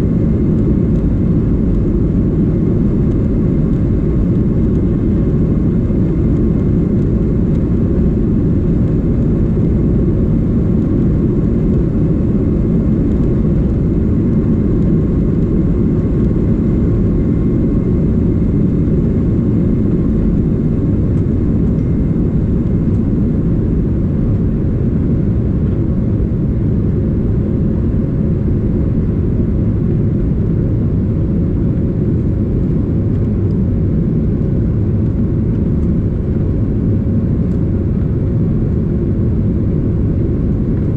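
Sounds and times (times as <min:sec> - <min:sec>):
faint jet engine whine: 0:00.0 - 0:40.9
jet engines rumbling: 0:00.0 - 0:40.9.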